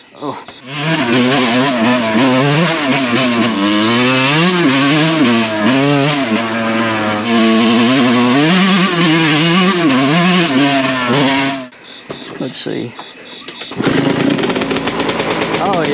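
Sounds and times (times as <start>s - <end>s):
two-stroke motorcycle revving: 0.0s - 12.5s, 13.5s - 15.9s.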